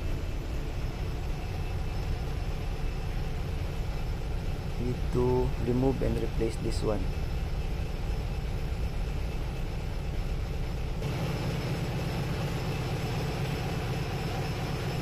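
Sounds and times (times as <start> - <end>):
ship machinery humming with hiss: 0.0 - 15.0.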